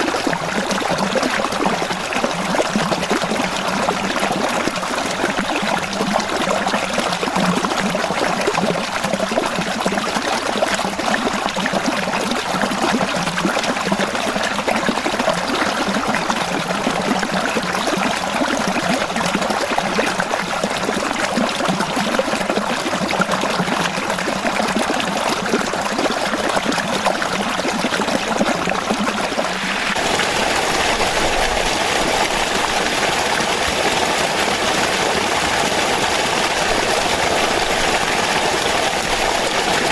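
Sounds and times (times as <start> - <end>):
stream water trickling over rocks: 0.0 - 39.9.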